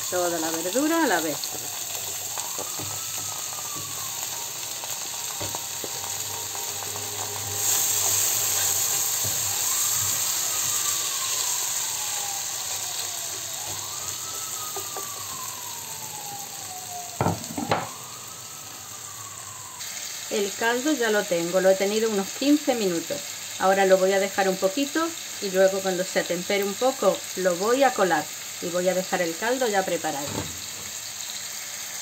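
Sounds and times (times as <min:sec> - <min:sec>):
faint siren wailing: 0:00.0 - 0:31.6
vegetables sizzling in frying pan: 0:00.0 - 0:32.0.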